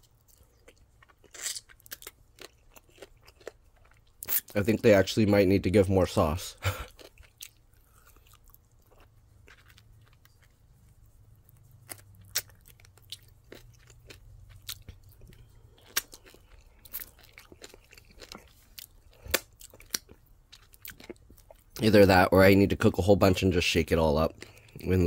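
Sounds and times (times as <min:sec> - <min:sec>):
person chewing crispy food: 0:00.0 - 0:04.8, 0:06.6 - 0:21.8, 0:24.3 - 0:25.0.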